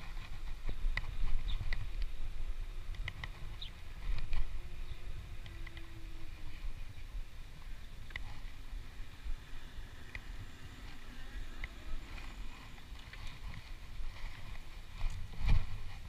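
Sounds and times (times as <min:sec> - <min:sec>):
road noise: 0:00.0 - 0:16.0
wind rumbling on microphone: 0:00.0 - 0:16.0.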